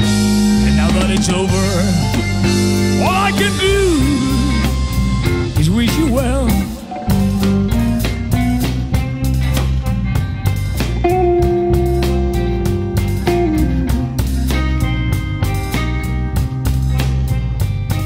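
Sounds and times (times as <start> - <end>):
bass guitar: 0.0 - 18.0
blues electric guitar lead: 0.0 - 18.0
drums: 0.0 - 18.0.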